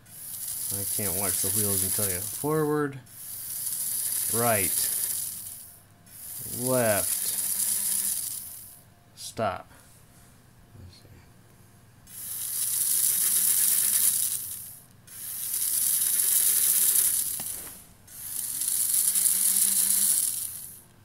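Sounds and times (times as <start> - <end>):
toy motors whirring: 0.0 - 8.8, 12.1 - 20.9.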